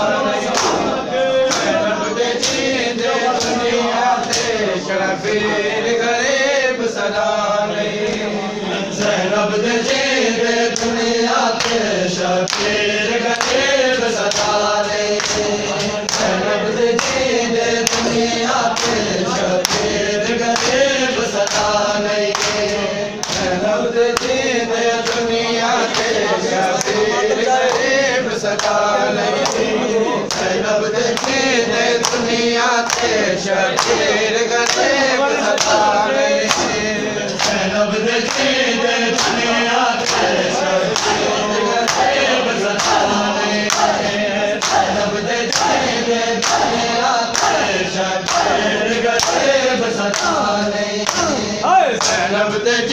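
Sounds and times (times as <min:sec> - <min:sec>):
men singing in unison: 0:00.0 - 0:52.9
hands slapping chests: 0:00.5 - 0:01.8, 0:02.4 - 0:02.7, 0:03.4 - 0:04.6, 0:10.7 - 0:11.0, 0:11.6 - 0:52.2.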